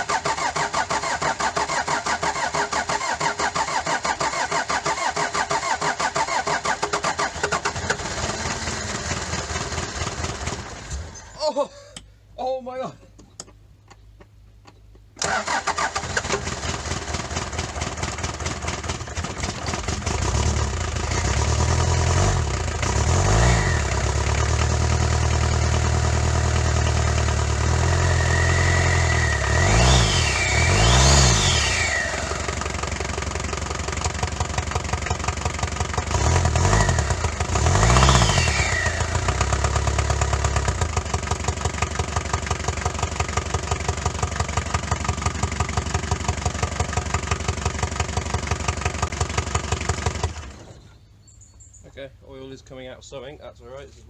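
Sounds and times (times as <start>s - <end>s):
diesel engine starting and revving: 0.0s - 11.4s, 15.2s - 51.1s.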